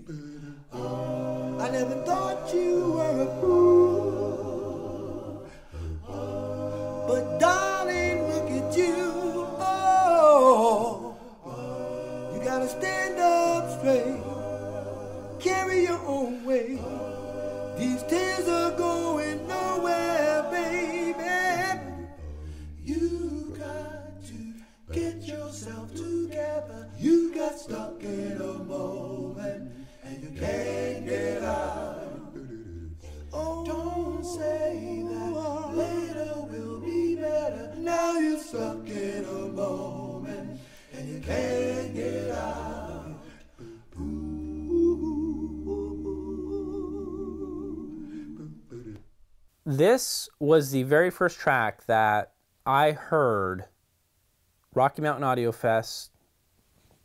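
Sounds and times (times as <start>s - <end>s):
deep held bass voice: 0.0s - 49.0s
men singing a cappella harmony: 0.0s - 49.2s.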